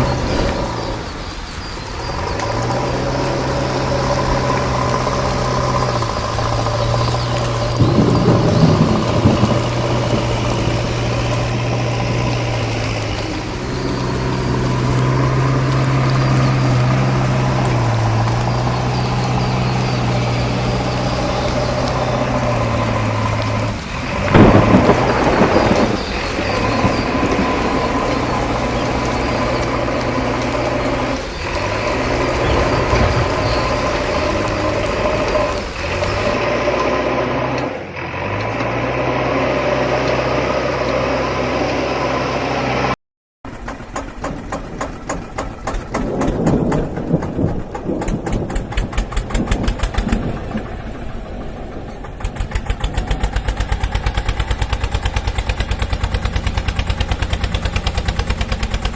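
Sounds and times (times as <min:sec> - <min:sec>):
loud rumbling crash: 0:00.0 - 0:36.4, 0:44.5 - 0:55.4
rain hissing: 0:00.0 - 0:43.0, 0:45.8 - 0:58.9
heavy diesel engine running: 0:00.0 - 0:58.9.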